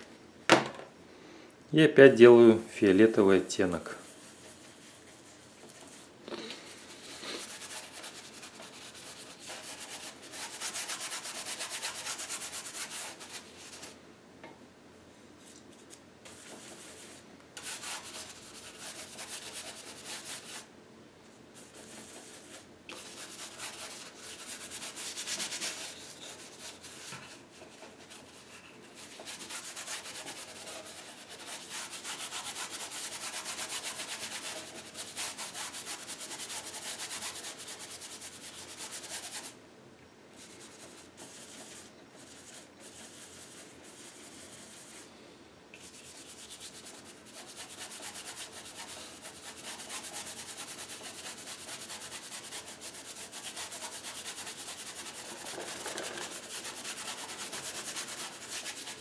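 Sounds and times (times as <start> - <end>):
paintbrush scrubbing: 4.0 - 14.0, 16.3 - 20.7, 21.6 - 39.5, 40.4 - 45.0, 45.8 - 59.0.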